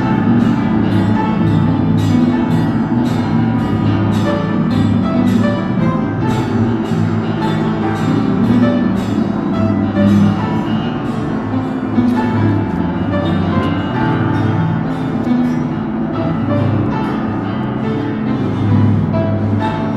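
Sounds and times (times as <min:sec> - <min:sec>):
scattered pitched melody: 0:00.0 - 0:19.9
sustained low bass notes: 0:00.0 - 0:19.9.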